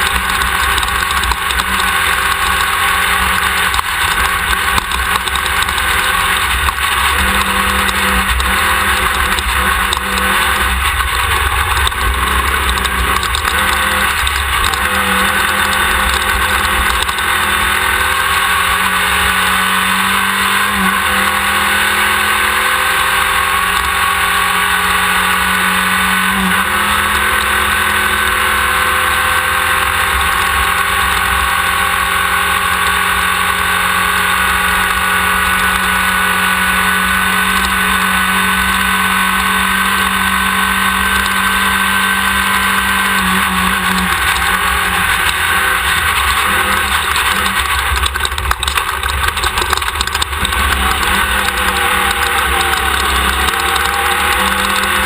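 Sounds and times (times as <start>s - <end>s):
buggy engine running hard: 0.0s - 55.0s
wind and driving noise: 0.0s - 55.0s.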